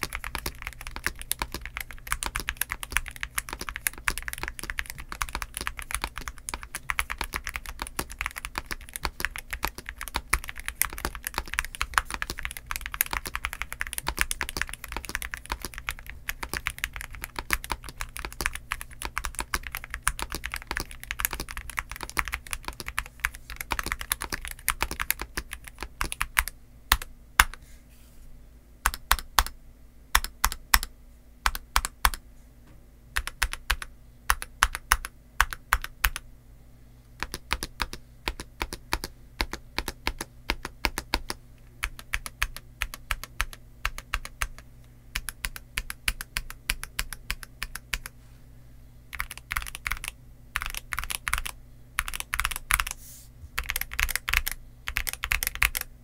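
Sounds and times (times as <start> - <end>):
mechanical keyboard typing: 0.0 - 27.6, 28.9 - 29.5, 30.1 - 32.2, 33.2 - 36.2, 37.2 - 44.6, 45.2 - 48.1, 49.1 - 53.0, 53.6 - 55.9.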